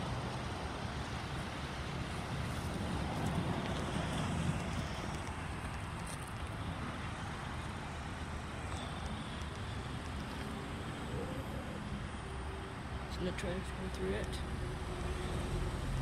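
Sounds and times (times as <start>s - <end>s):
car and tyre noise: 0.0s - 16.0s.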